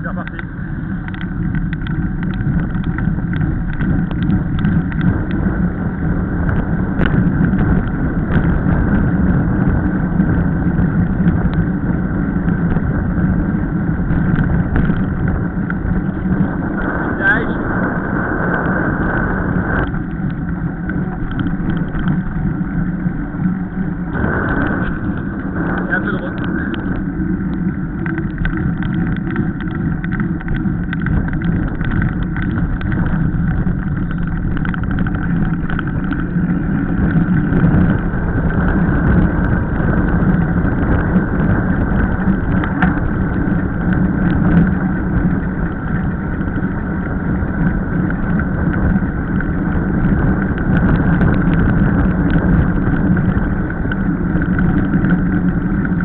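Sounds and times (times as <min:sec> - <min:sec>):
small clicks and rattles: 0:00.0 - 0:17.6, 0:18.5 - 0:56.0
bike tyre noise on asphalt: 0:00.0 - 0:56.0
wind rushing: 0:00.0 - 0:56.0.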